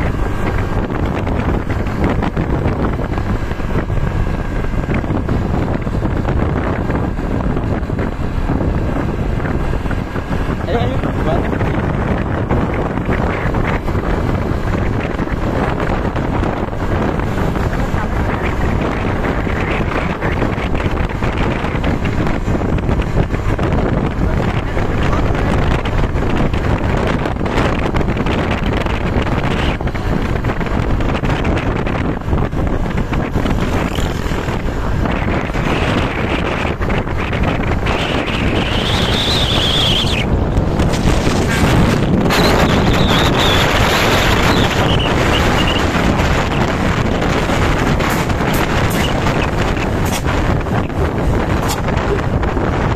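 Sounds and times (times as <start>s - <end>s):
bus going by: 0.0s - 52.9s
road vehicle rumble: 0.0s - 52.9s
wind buffeting microphone: 0.0s - 52.9s.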